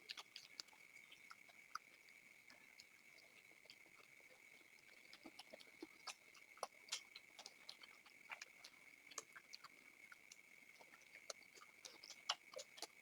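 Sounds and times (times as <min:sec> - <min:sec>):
people chewing and mouth smacks: 0:00.0 - 0:13.0.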